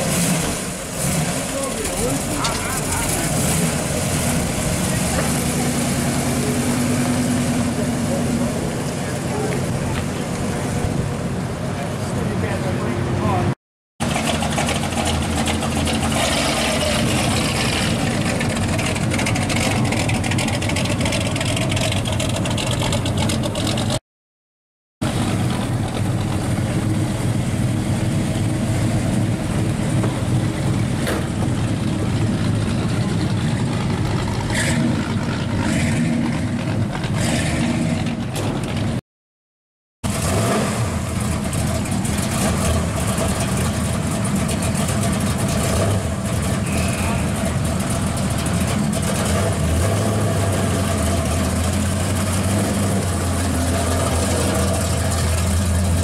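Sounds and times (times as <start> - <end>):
cars driving slowly past: 0.0 - 24.0, 25.0 - 39.0, 40.1 - 56.0.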